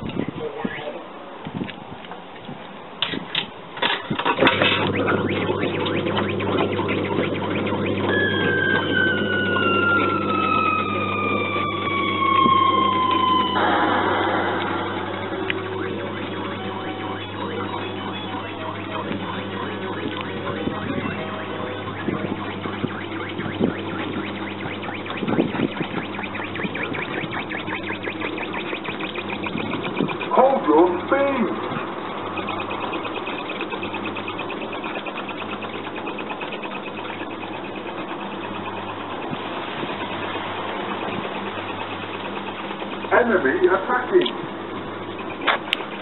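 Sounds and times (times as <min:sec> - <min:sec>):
kiddie ride hum and clatter: 0:01.3 - 0:46.0
electronic descending tone: 0:04.3 - 0:44.2.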